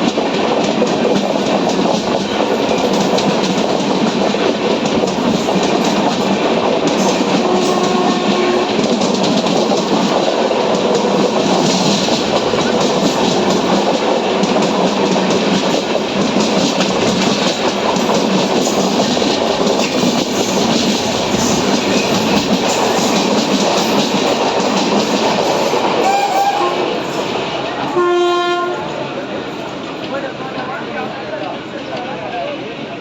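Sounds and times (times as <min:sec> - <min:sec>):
train rumble and clatter on rails: 0:00.0 - 0:33.0.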